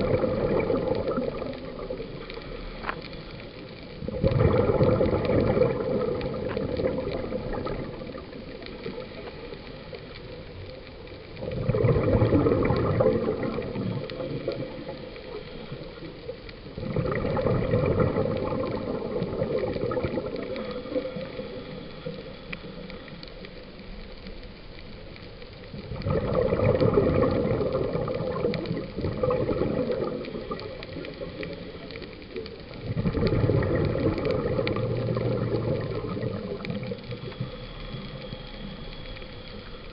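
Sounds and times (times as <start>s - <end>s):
scuba regulator bubbles: 0.0s - 39.9s.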